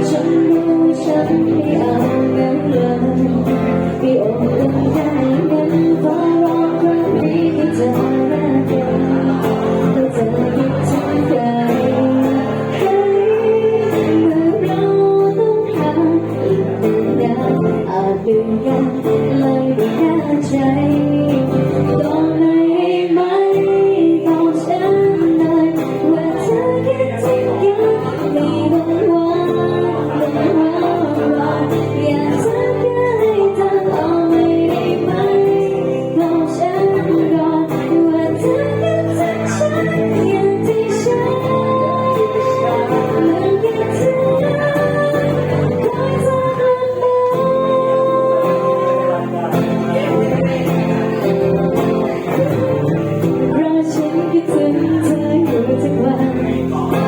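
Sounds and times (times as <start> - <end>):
guitar accompaniment: 0.0 - 57.0
woman singing: 0.0 - 57.0.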